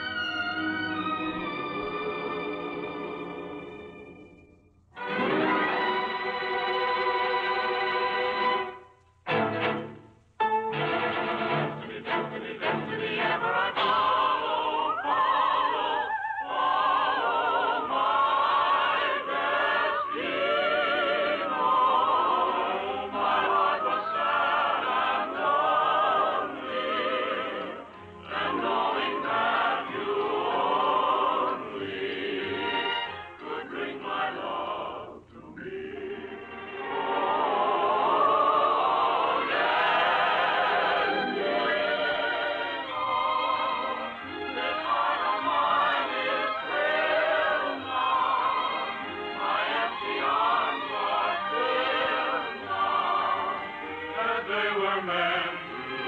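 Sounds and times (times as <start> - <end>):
orchestral accompaniment: 0.0 - 34.8, 35.6 - 56.0
choir singing wordless lines: 11.0 - 56.0.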